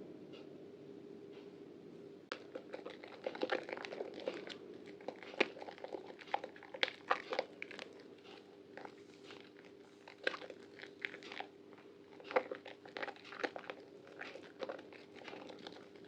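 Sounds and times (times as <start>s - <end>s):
wet soap crackling: 2.3s - 16.0s.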